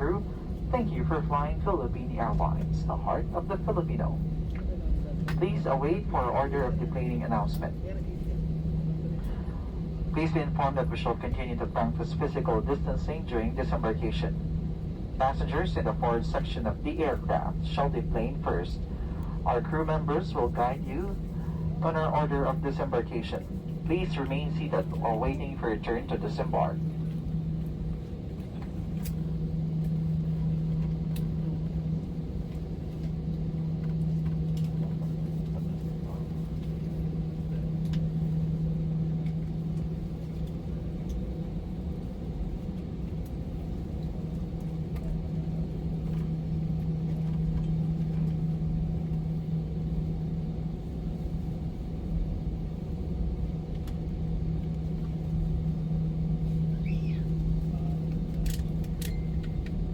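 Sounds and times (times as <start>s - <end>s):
airplane cabin hum: 0.0s - 59.9s.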